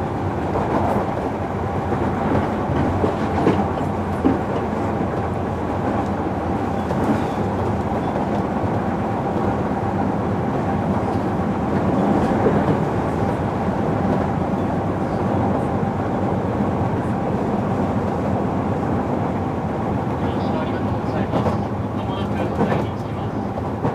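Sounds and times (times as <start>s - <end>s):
train running rumble: 0.0s - 23.9s.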